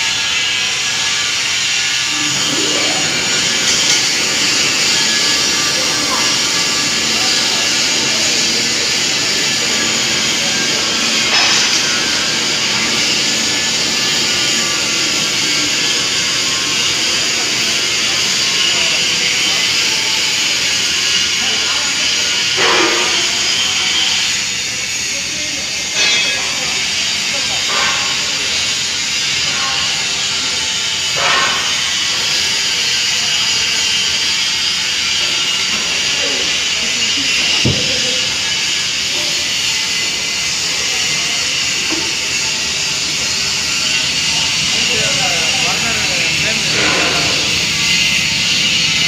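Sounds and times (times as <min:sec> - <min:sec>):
furnace rushing roar: 0:00.0 - 0:49.0.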